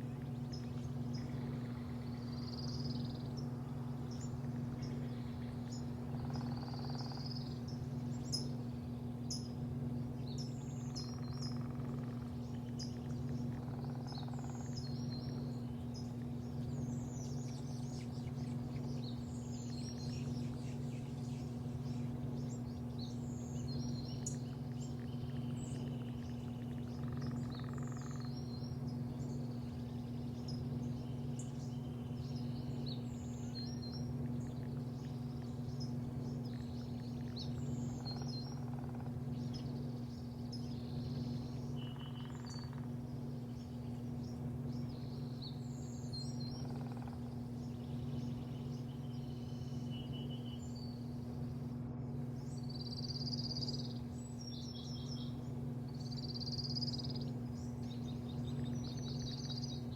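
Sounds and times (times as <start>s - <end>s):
birds chirping: 0.0s - 59.9s
low mechanical hum: 0.0s - 59.9s.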